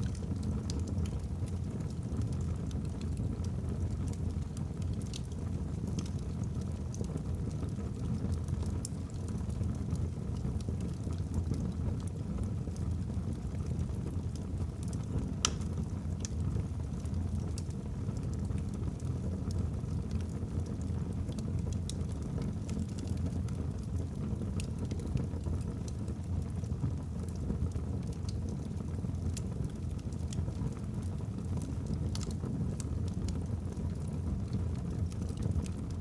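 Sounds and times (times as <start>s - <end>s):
logs crackling and popping: 0.0s - 36.0s
wood fire rumbling: 0.0s - 36.0s.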